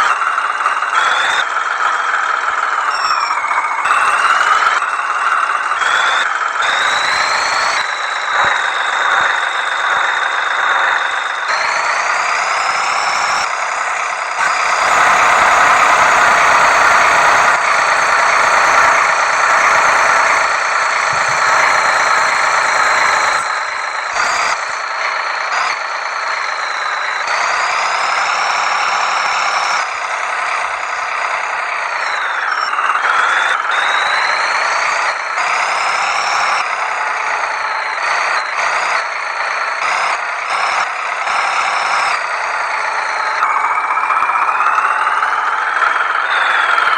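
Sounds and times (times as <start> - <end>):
high engine whine: 0.0 - 46.9
tractor engine revving: 0.0 - 46.9.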